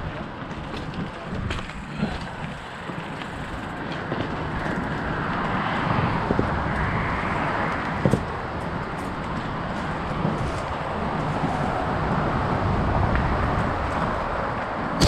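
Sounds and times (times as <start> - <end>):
bike tyre and wind noise: 0.0 - 15.0.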